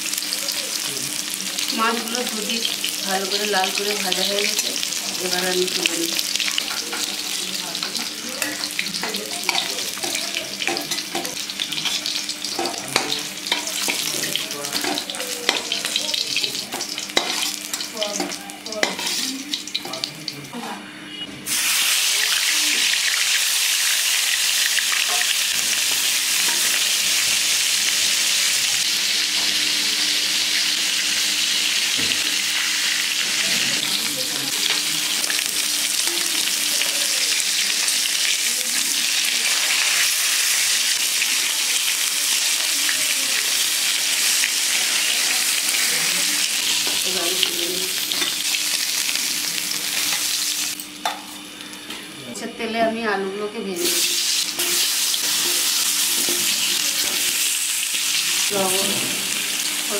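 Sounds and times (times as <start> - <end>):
potatoes sizzling in hot oil: 0.0 - 20.4, 21.5 - 51.5, 53.8 - 59.9.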